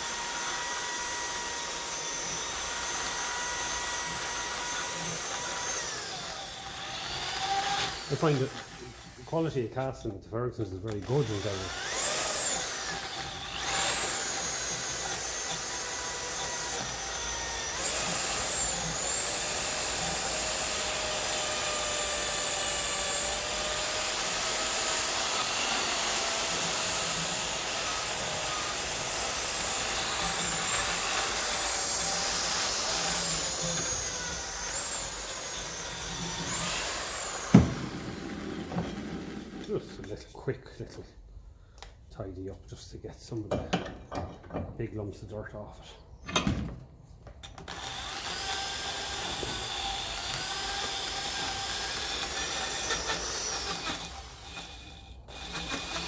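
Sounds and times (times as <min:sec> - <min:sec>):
electric power tool under load: 0:00.0 - 0:09.5, 0:10.9 - 0:40.0, 0:47.5 - 0:56.0.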